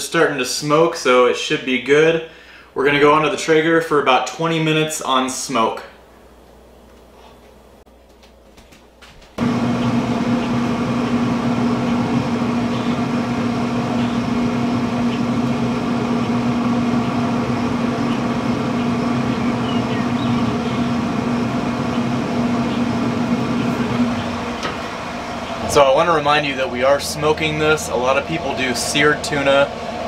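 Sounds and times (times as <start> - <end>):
grill fan humming: 0.0 - 30.0.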